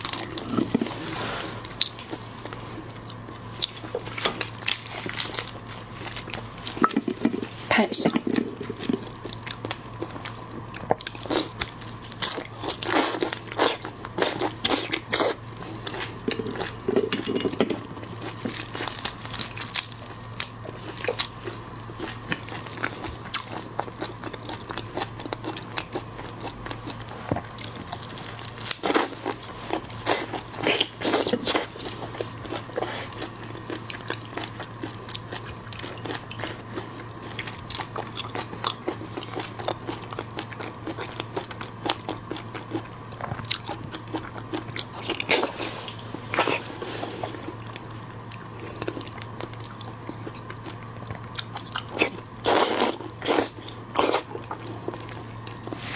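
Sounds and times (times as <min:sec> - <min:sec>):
crunching and wet chewing: 0:00.0 - 0:55.9
steady low hum: 0:00.0 - 0:55.9.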